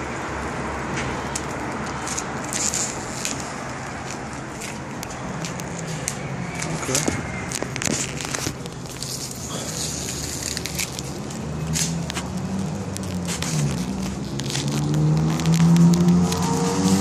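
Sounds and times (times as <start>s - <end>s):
crackling and rustling: 0.9s - 17.0s.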